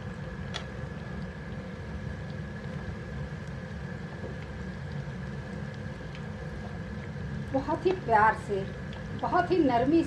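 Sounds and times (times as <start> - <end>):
small pops from bubbling oil: 0.0 - 9.6
oil deep-frying rumble: 0.0 - 10.0.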